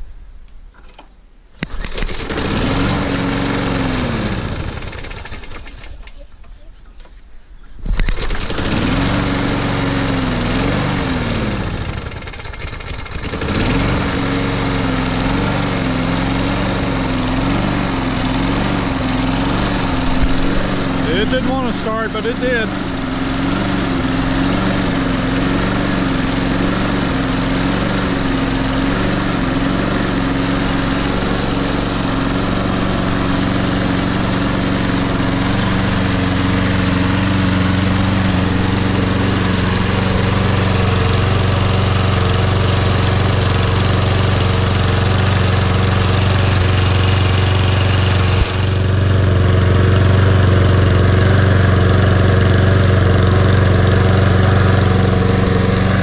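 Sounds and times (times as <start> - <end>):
lawn mower engine running: 0.8 - 7.2, 7.8 - 56.0.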